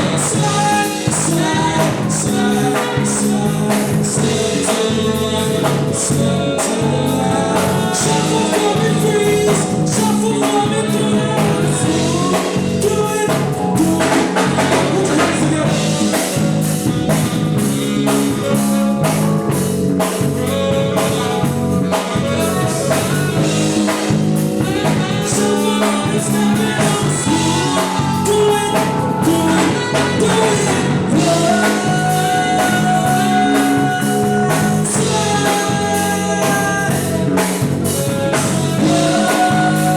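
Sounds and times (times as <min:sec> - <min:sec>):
person singing: 0:00.0 - 0:19.4, 0:20.1 - 0:39.9
drum kit: 0:00.0 - 0:39.9
live band playing: 0:00.0 - 0:39.9.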